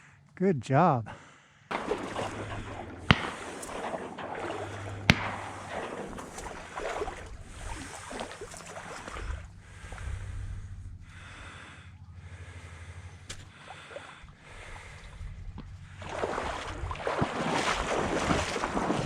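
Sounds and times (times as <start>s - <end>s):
water sloshing and splashing: 1.7s - 19.0s.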